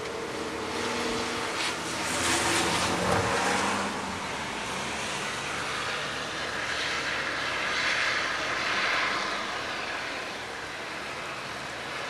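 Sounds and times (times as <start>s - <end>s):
rain: 0.0s - 12.0s
wind: 0.0s - 12.0s.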